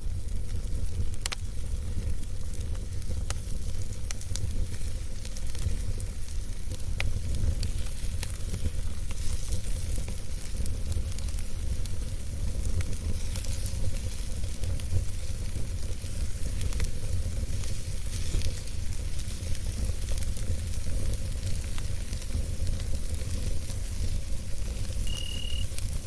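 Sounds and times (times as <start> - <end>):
campfire crackling and hissing: 0.0 - 26.0.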